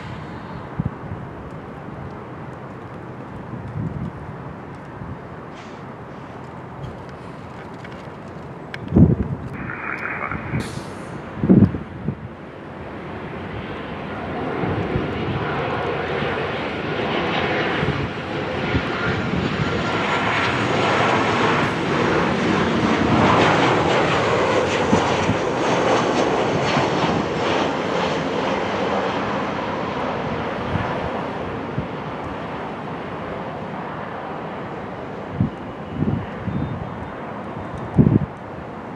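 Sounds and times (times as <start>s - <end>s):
jet airliner passing: 0.0s - 38.9s.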